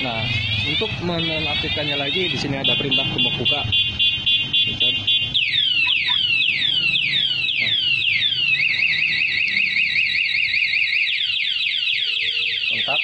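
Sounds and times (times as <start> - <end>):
motorcycle alarm siren: 0.0 - 13.0.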